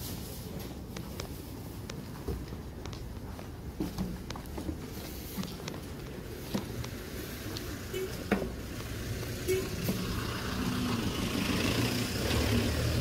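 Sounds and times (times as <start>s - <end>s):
street noise: 0.0s - 13.0s
vehicle engine rumbling: 0.0s - 13.0s.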